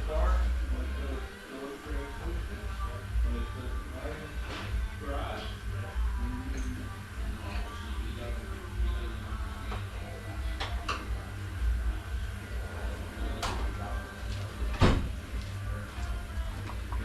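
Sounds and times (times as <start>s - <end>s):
background music with bass: 0.0s - 1.3s, 1.9s - 17.0s.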